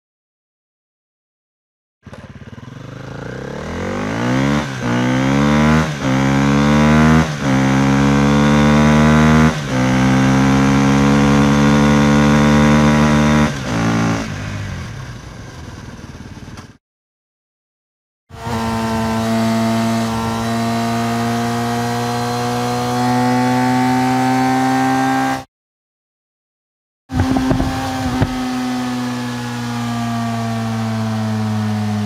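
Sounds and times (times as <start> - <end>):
motorcycle engine accelerating: 2.0 - 16.8, 18.3 - 25.5, 27.1 - 32.0.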